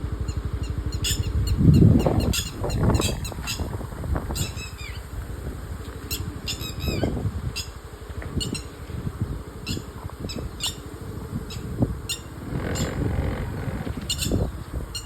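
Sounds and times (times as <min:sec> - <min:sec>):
steady low rumble: 0:00.0 - 0:15.0
birds calling high-pitched: 0:00.2 - 0:05.2, 0:05.8 - 0:15.0.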